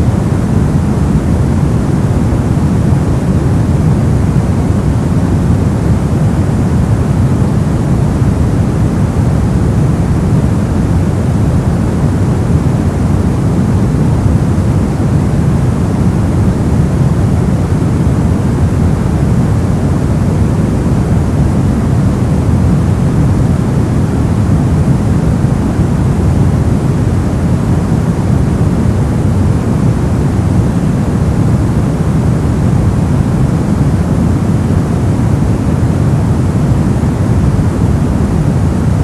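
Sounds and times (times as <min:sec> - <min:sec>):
deep rumbling brown noise: 0:00.0 - 0:39.0.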